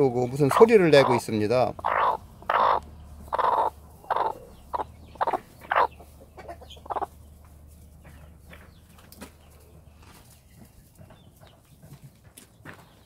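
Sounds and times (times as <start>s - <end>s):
hen clucking: 0.0s - 11.8s.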